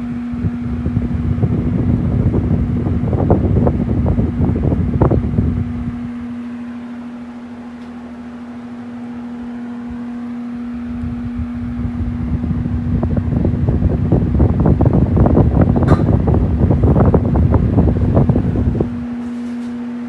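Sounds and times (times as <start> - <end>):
air buffeting microphone: 0.0 - 7.8, 8.9 - 20.0
electric fan motor humming: 0.0 - 20.0.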